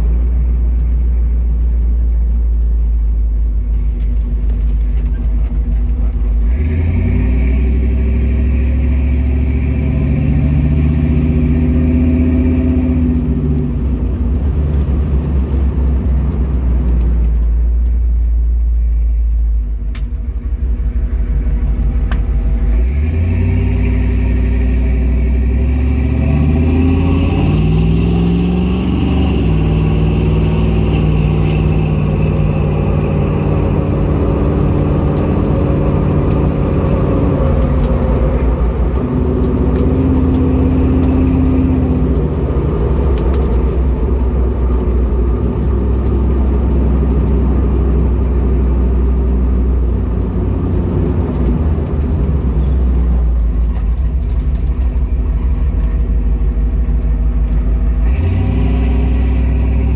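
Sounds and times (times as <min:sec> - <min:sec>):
car engine from inside cab: 0:00.0 - 0:59.9.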